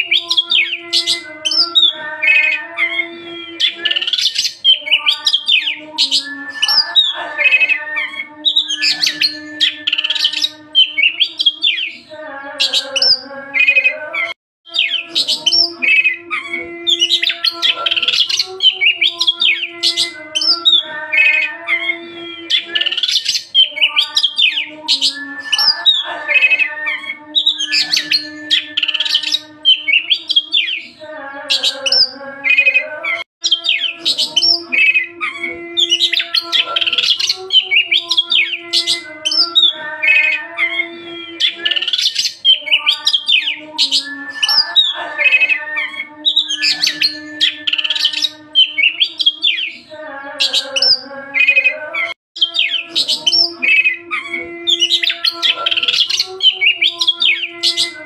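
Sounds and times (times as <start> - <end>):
bird singing whistles and chatter: 0.0 - 14.0, 14.7 - 31.0, 33.4 - 58.0.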